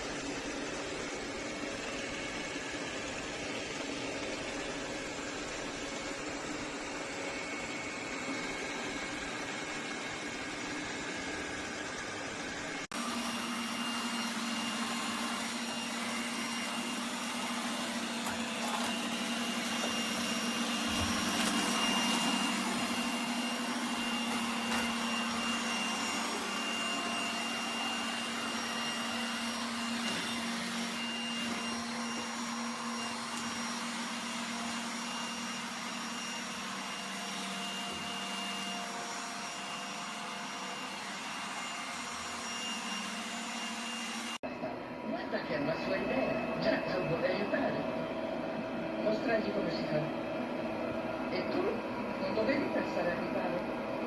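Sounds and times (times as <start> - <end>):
robot vacuum cleaner running: 0.0 - 54.0.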